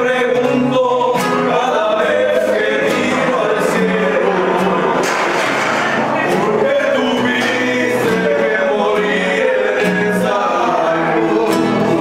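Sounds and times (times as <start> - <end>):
acoustic guitars: 0.0 - 12.0
men singing together: 0.0 - 12.0.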